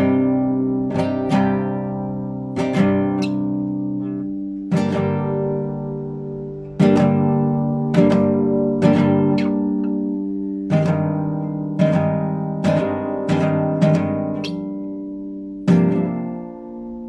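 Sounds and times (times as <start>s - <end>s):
classical guitar chords ringing: 0.0s - 17.0s.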